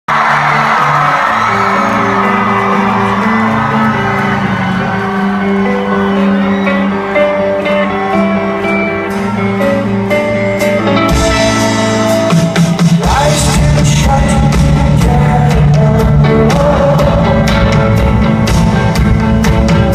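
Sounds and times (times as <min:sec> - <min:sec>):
live rock band playing: 0:00.1 - 0:19.9.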